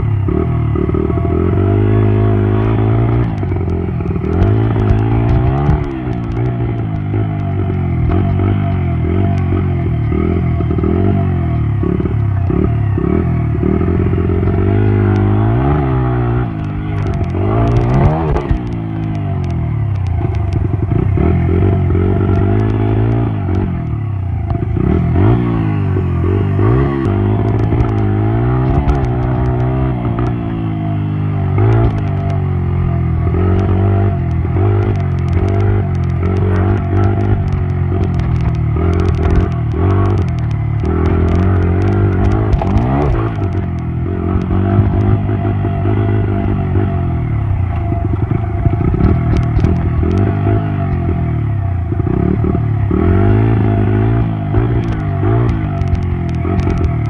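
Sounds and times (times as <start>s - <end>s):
dirt bike engine revving: 0.0s - 23.8s, 24.6s - 57.0s.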